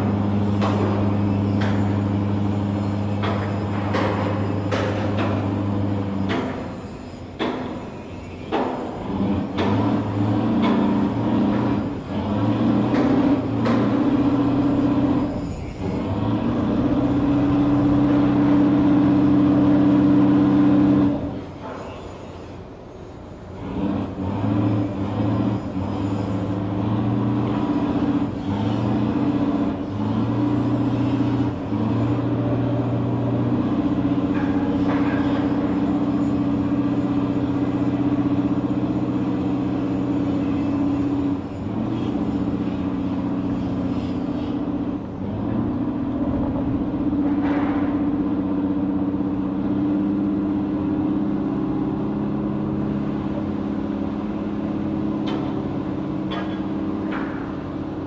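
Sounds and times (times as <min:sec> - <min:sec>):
heavy engine droning: 0:00.0 - 0:58.0.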